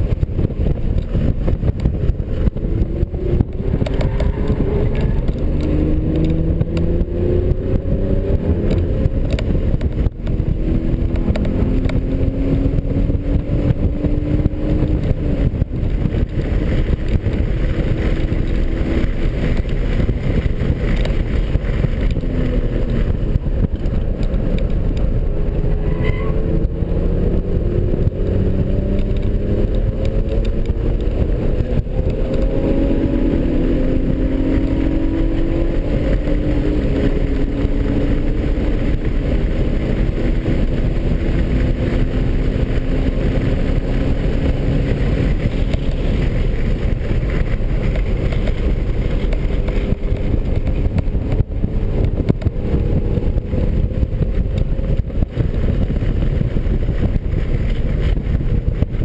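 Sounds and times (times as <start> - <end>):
car engine accelerating: 0.0 - 59.0
road and wind rumble: 0.0 - 59.0.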